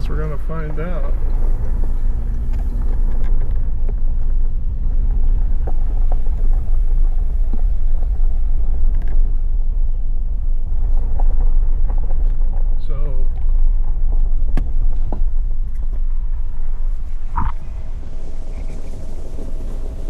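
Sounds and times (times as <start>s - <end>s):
vehicle driving on dirt road: 0.0s - 20.0s.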